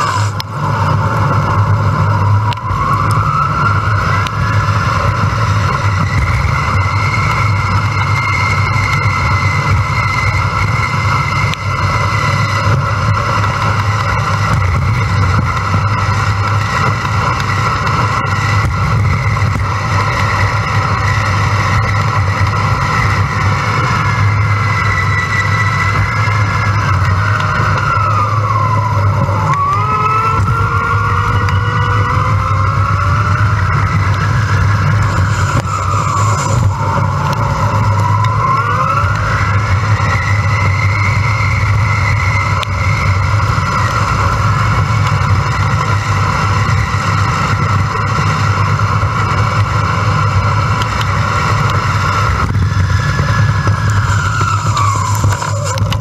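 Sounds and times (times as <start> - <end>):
electric hub motor whine: 0.0 - 56.0
wind rush on microphone: 0.0 - 56.0.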